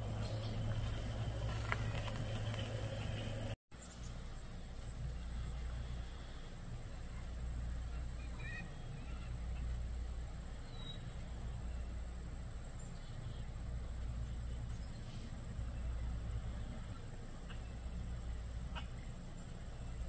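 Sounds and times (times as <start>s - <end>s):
faint bird chirps: 3.8s - 20.0s.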